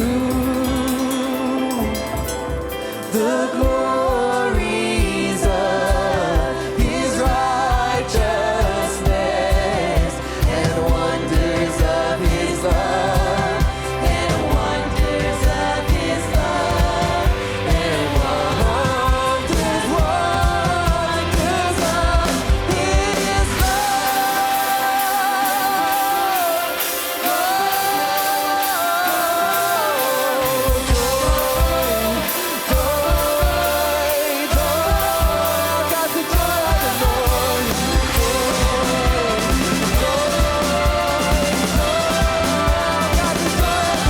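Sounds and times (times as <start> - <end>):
voices singing together: 0.0 - 44.0
worship band playing: 0.0 - 44.0.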